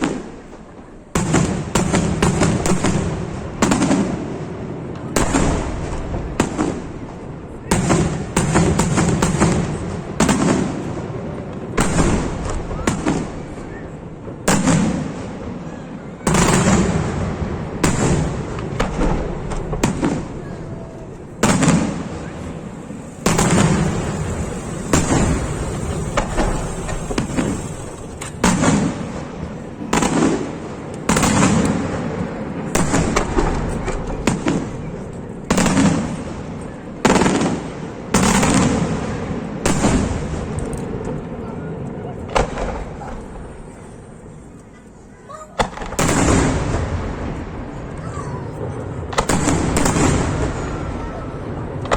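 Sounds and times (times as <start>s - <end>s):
fireworks bangs echoing: 0.0s - 44.5s, 45.6s - 51.9s
fireworks crackling: 0.0s - 51.9s.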